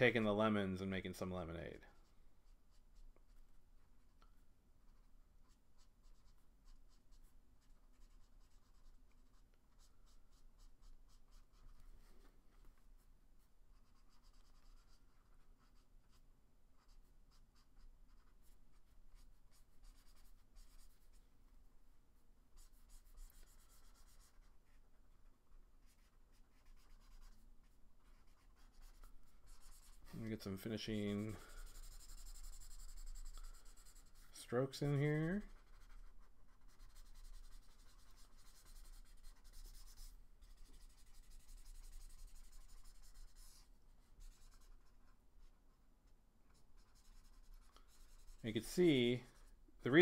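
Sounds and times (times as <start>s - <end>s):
marker scratching on paper: 5.0s - 12.8s, 13.7s - 21.2s, 22.6s - 24.8s, 25.8s - 45.7s, 46.5s - 50.0s.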